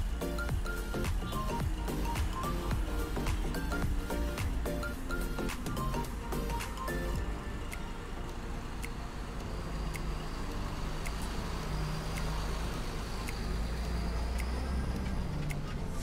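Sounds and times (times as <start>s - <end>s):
truck engine and hydraulics running: 0.0s - 16.0s
faint light ticks: 2.2s - 16.0s.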